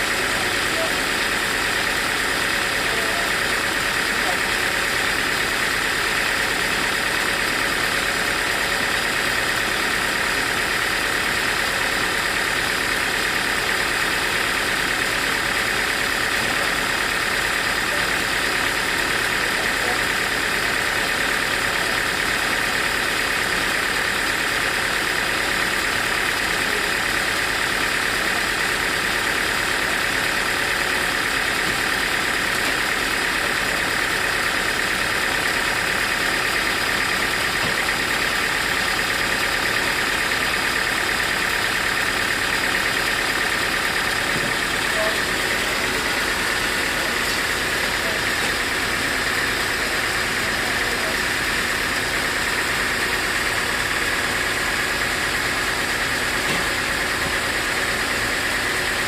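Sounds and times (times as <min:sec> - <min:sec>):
sawmill machine noise: 0:00.0 - 0:59.0.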